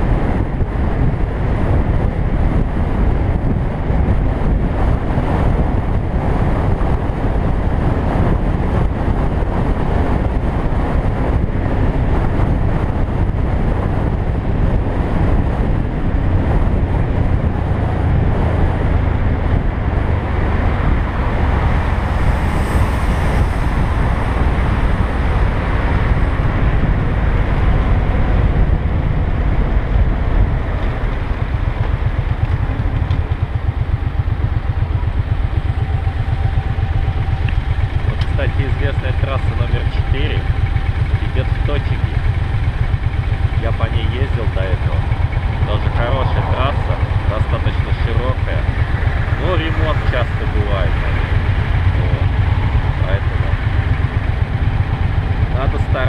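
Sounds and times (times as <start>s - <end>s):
motorcycle engine rumble: 0.0s - 56.0s
wind noise: 0.0s - 56.0s.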